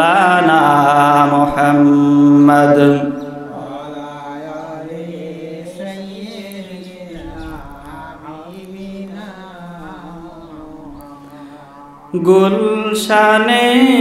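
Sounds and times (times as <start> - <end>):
man softly singing: 0.0 - 14.0.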